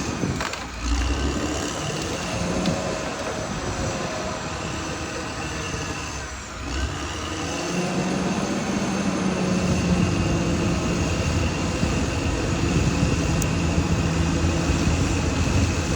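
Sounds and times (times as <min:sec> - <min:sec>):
bulldozer diesel engine: 0:00.0 - 0:15.9.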